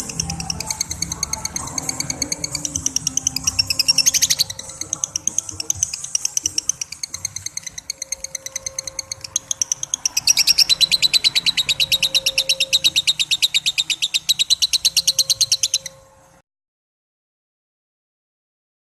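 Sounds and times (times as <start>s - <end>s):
lovebird shrill chatter: 0.0s - 16.2s.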